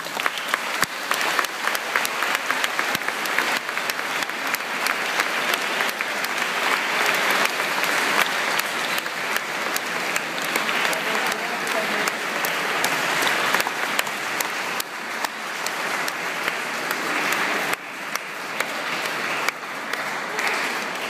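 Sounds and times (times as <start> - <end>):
crowd applauding: 0.0 - 21.0.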